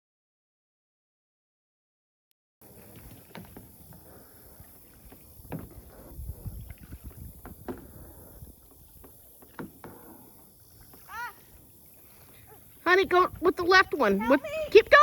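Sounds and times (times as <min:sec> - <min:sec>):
paddle splashing in water: 0:02.6 - 0:15.0
wind rumble on microphone: 0:02.8 - 0:15.0.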